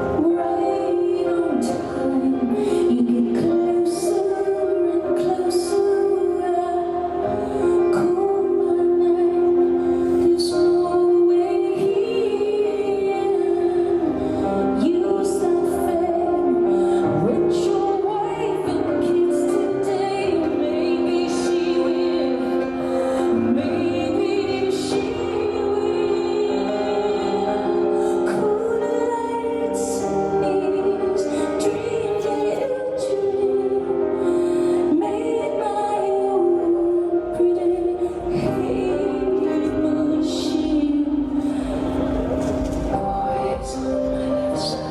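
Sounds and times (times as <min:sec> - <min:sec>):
woman singing: 0:00.0 - 0:44.9.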